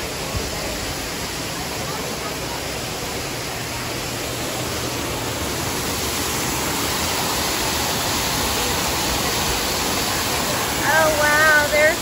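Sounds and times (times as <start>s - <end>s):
waterfall pouring into a pool: 0.0s - 12.0s.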